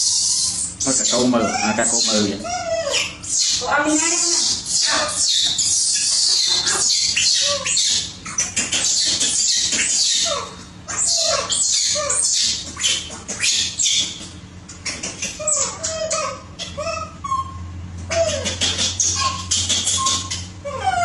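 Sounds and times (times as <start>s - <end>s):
monkeys screeching: 0.0s - 21.0s
monkeys whimpering: 0.0s - 21.0s.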